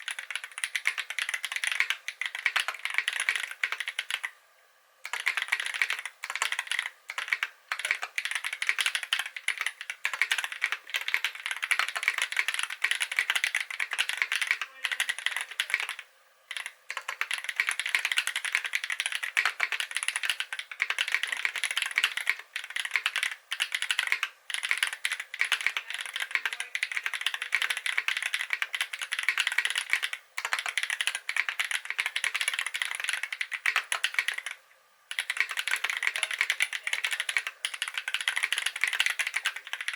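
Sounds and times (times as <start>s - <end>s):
fast mechanical keyboard typing: 0.0s - 4.3s, 5.0s - 39.9s.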